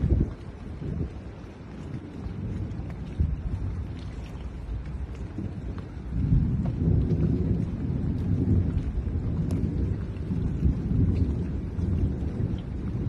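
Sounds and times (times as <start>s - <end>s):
rolling thunder: 0.0s - 13.0s.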